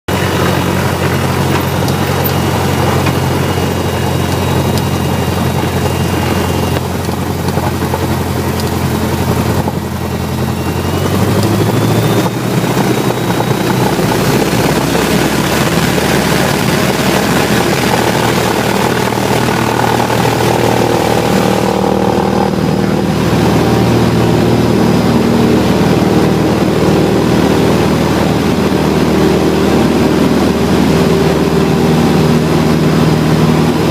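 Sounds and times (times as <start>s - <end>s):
propeller aircraft engine: 0.0s - 33.9s.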